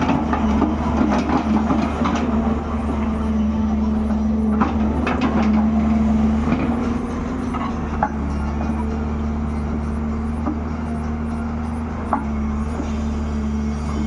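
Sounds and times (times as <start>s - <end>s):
sharp metallic knocks: 0.0s - 13.2s
heavy machine engine running: 0.0s - 14.0s.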